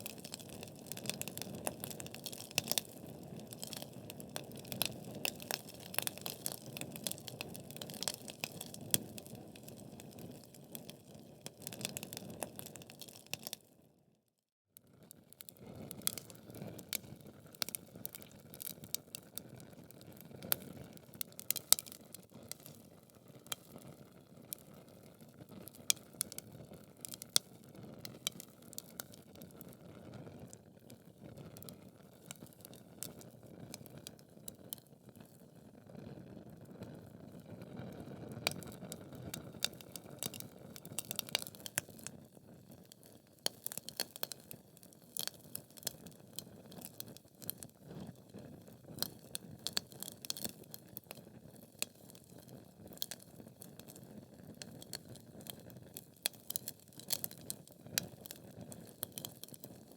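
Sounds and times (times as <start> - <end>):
logs crackling and popping: 0.0 - 13.6, 15.5 - 22.8, 23.4 - 29.8, 31.5 - 35.4, 38.4 - 48.3, 48.9 - 59.9.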